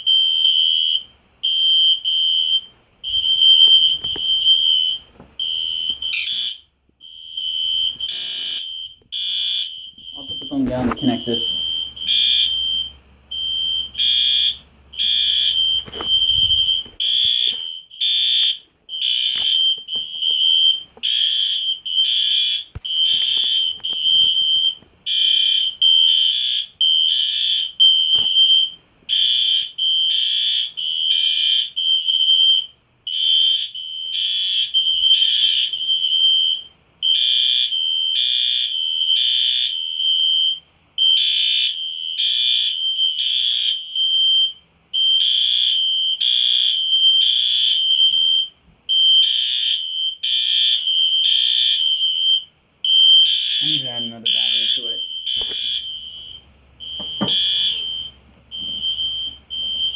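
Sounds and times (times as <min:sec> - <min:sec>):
fire alarm horn blasts: 0:00.0 - 0:59.9.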